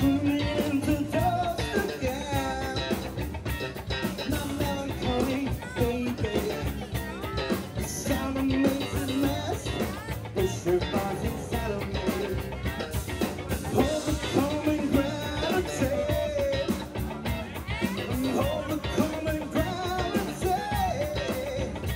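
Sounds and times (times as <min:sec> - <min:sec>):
drum kit: 0:00.0 - 0:21.9
electric guitars: 0:00.0 - 0:21.9
man singing: 0:00.0 - 0:21.9.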